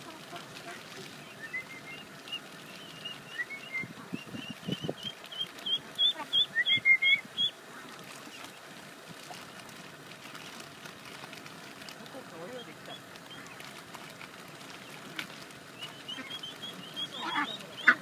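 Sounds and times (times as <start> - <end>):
ducklings peeping: 0.0 - 18.0.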